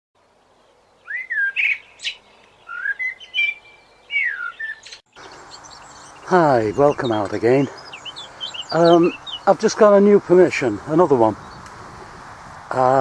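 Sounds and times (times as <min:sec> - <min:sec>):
songbird singing: 0:00.2 - 0:13.0.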